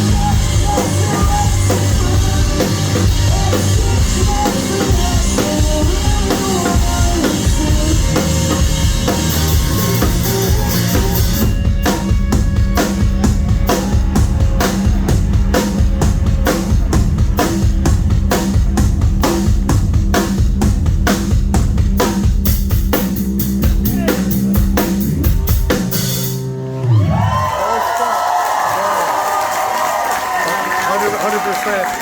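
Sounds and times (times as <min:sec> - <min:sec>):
drums hitting hard: 0:00.0 - 0:27.5
live rock band: 0:00.0 - 0:27.6.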